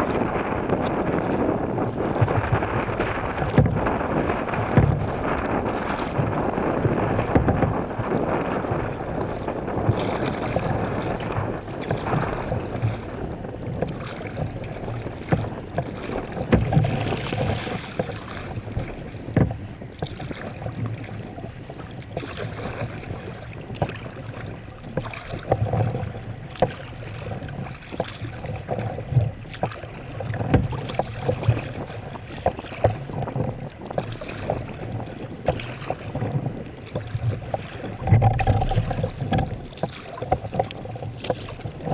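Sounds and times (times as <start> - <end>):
paddle splashing and knocking: 0.0 - 41.9
water slapping a hull: 0.0 - 41.9
wind on microphone: 0.0 - 41.9.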